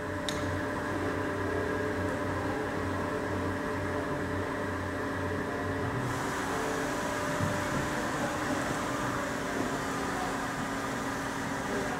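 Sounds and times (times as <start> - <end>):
lathe running hum: 0.0 - 11.9.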